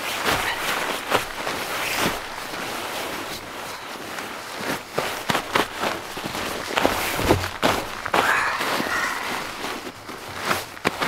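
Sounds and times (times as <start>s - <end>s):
nylon fabric rustling: 0.0s - 11.0s.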